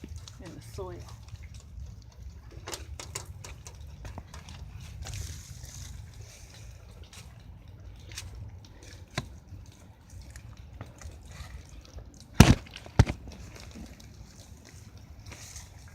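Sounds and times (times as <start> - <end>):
digging in wet soil: 0.0 - 15.9.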